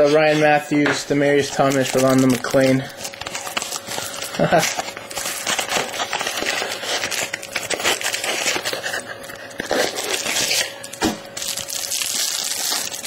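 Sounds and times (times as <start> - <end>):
wrapper crinkling and rustling: 0.0 - 13.0.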